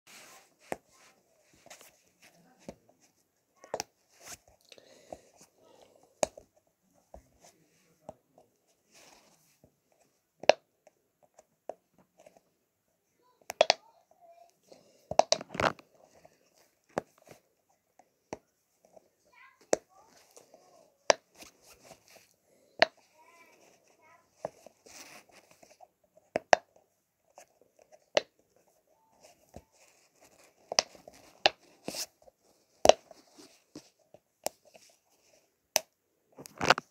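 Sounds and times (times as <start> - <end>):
soft rustle of handling: 0.1 - 13.0, 14.0 - 36.9.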